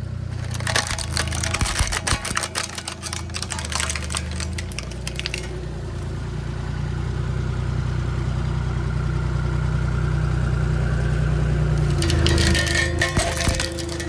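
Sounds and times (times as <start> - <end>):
road roller engine humming: 0.0 - 14.0.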